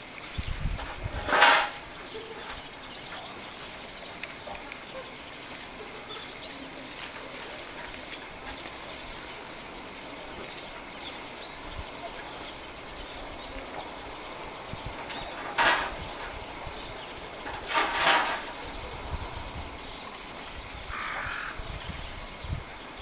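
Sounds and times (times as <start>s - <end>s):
distant indistinct voices: 0.8s - 23.0s.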